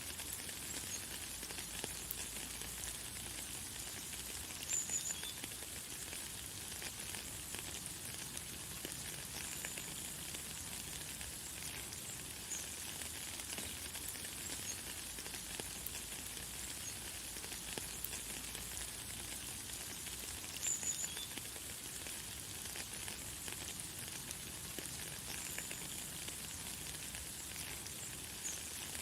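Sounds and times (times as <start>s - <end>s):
light rain hissing: 0.0s - 29.0s.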